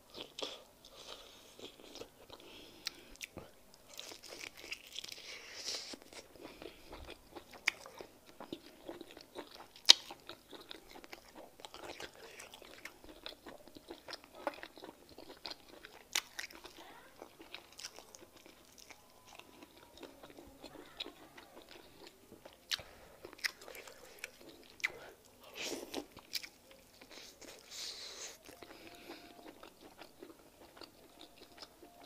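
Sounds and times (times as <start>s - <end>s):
close chewing and smacking: 0.0s - 32.0s.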